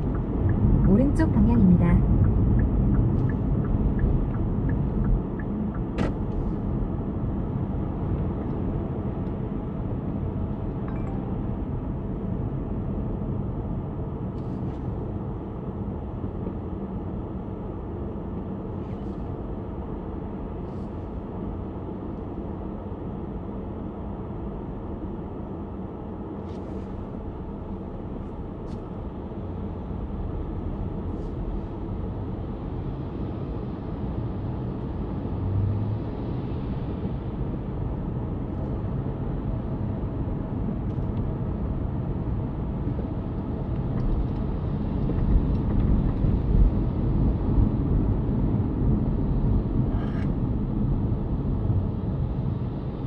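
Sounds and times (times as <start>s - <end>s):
road and tyre rumble in car: 0.0s - 53.0s.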